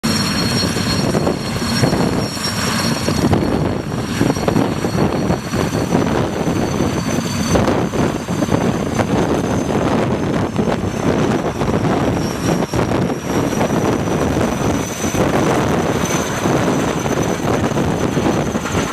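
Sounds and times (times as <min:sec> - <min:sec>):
helicopter rotor beat: 0:00.0 - 0:18.9
turbine whine: 0:00.0 - 0:18.9.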